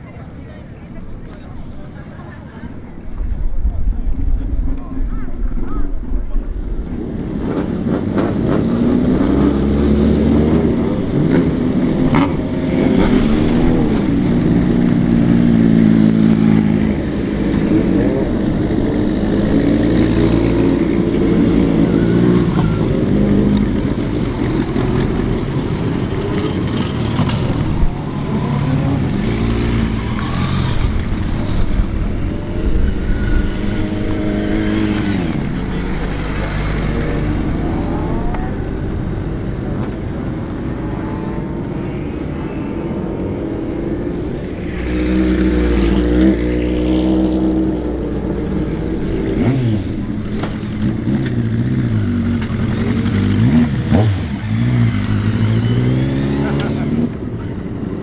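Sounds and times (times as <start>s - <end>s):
motorcycles revving past: 6.9s - 58.0s.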